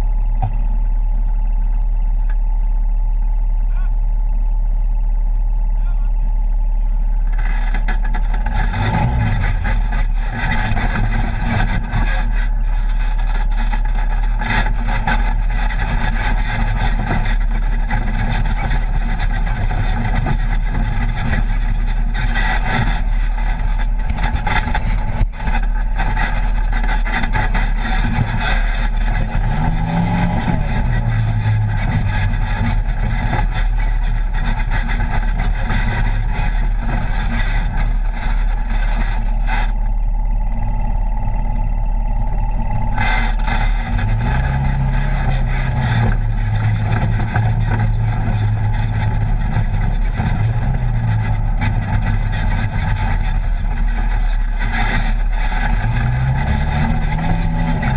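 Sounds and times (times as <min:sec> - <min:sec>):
knocks and rattles over ground: 0:00.0 - 0:57.9
off-road vehicle engine running: 0:00.0 - 0:57.9.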